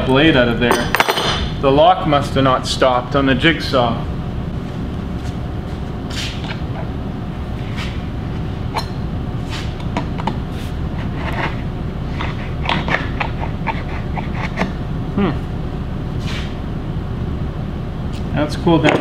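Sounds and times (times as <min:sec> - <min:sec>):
low workshop hum: 0:00.0 - 0:19.0.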